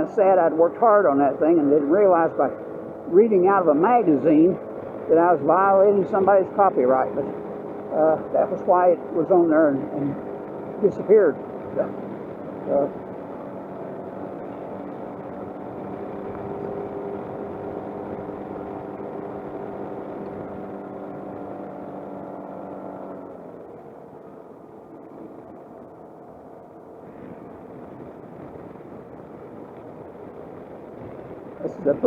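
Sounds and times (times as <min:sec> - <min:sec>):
scooter engine running: 0:00.0 - 0:32.0
wind and road noise: 0:00.0 - 0:32.0.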